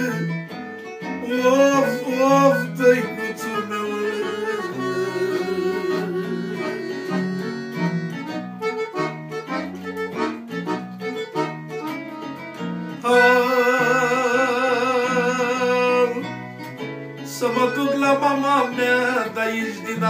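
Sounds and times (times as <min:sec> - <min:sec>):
electronic keyboard chords: 0:00.0 - 0:19.4
accordion melody: 0:00.0 - 0:20.0.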